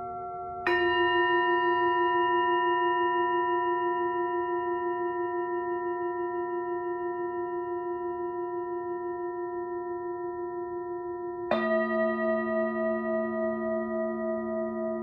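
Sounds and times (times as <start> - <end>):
bowl struck: 0.0 - 15.0
singing bowls ringing: 0.0 - 15.0.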